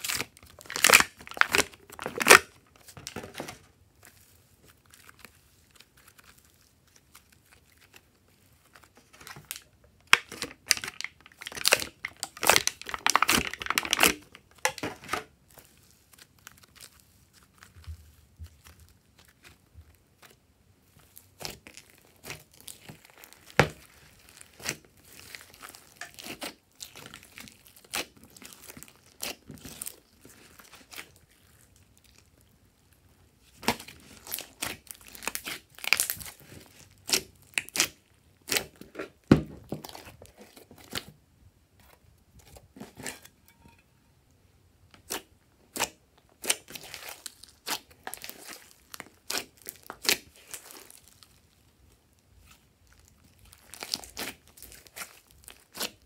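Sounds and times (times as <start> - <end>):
hands squishing slime: 3.9 - 14.8, 15.5 - 41.1, 44.9 - 56.0.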